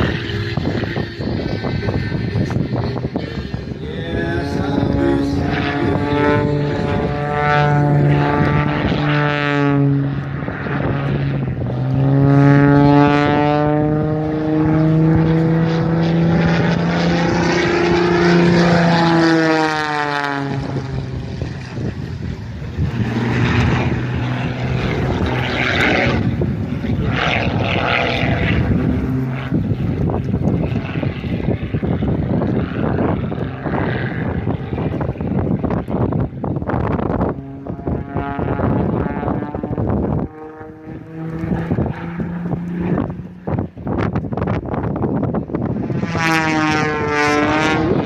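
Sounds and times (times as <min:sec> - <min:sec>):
biplane engine and propeller droning: 0:00.0 - 0:48.0.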